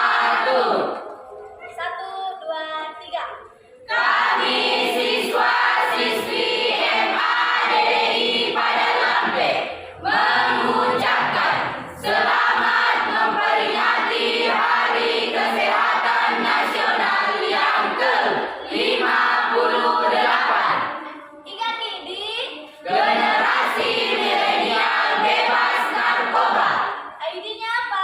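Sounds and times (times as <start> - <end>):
youth choir singing: 0.0 - 1.4, 3.8 - 27.2.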